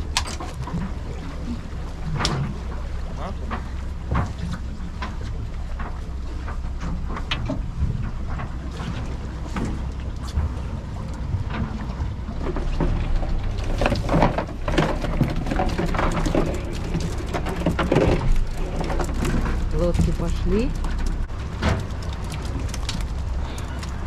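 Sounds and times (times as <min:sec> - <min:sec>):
outboard motor idling: 0:00.0 - 0:24.0
water lapping against hull: 0:00.0 - 0:24.0.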